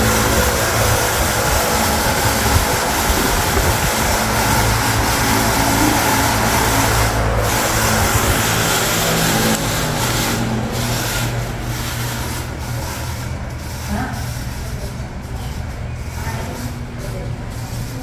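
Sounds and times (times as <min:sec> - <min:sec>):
wall fan running: 0:00.0 - 0:18.0.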